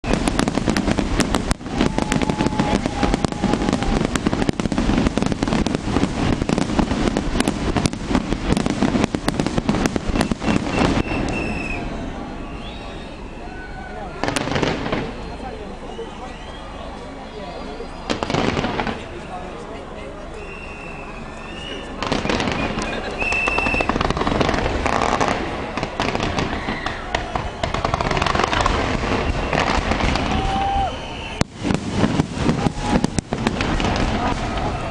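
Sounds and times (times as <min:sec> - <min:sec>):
firework whistle: 0:00.0 - 0:06.9, 0:09.3 - 0:19.6, 0:20.3 - 0:34.9
fireworks bangs and crackles: 0:00.0 - 0:13.0, 0:14.0 - 0:16.3, 0:16.9 - 0:34.9.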